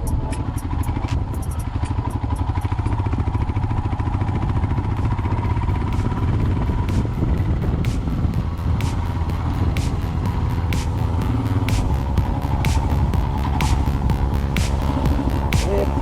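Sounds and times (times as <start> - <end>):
ticks and clatter: 0.0 - 13.9
motorcycle engine running: 0.0 - 16.0.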